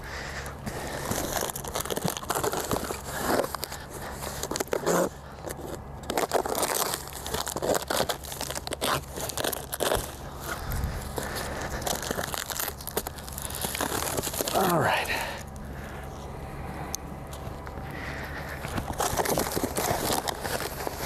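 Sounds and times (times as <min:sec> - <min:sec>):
packing tape tearing: 0:00.0 - 0:15.5, 0:18.6 - 0:21.0
cardboard crinkling and rustling: 0:00.0 - 0:16.2, 0:17.3 - 0:21.0.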